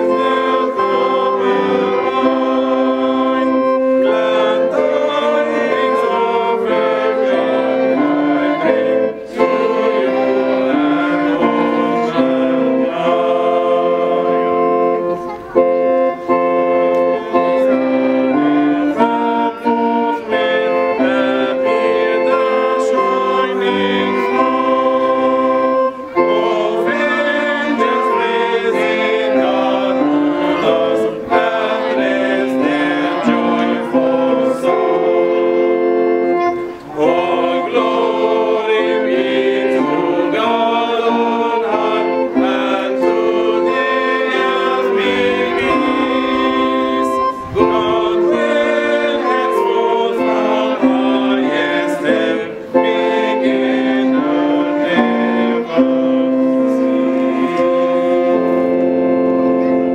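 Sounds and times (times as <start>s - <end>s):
electronic keyboard: 0.0s - 59.9s
group singing a hymn: 0.0s - 59.9s.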